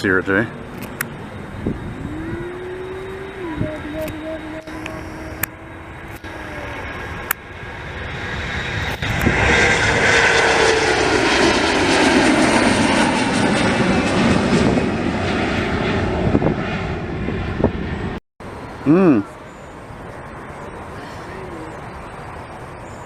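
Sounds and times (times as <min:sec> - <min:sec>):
jet engine rumble: 0:00.0 - 0:18.8
jet passing overhead: 0:00.0 - 0:18.8.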